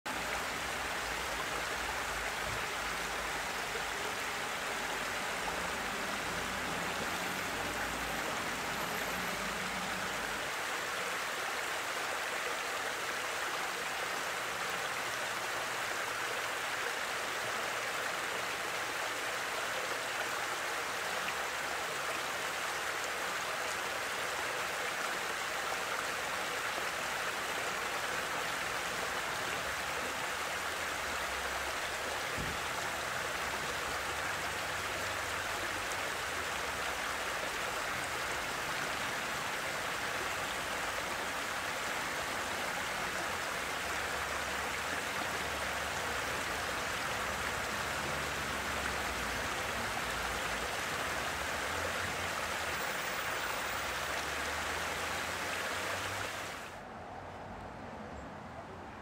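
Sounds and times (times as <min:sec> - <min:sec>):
water rushing over a weir: 0:00.1 - 0:56.9.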